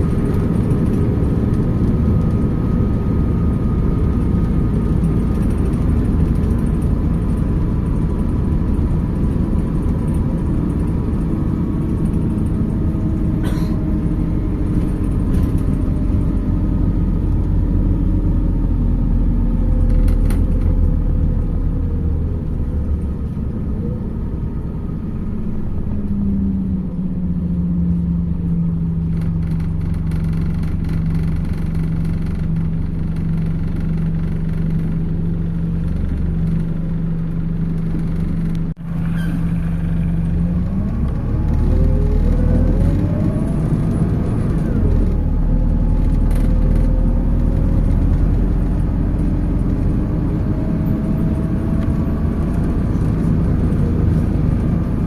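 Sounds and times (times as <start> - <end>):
bus engine humming: 0.0 - 55.0.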